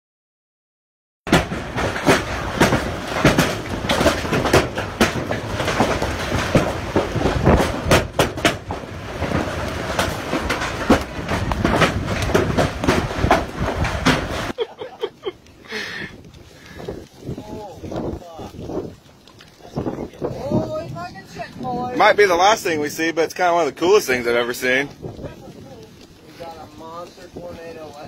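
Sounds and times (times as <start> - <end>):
hailstones clattering: 1.3 - 19.0, 19.6 - 28.0
heavy rain: 1.3 - 28.0.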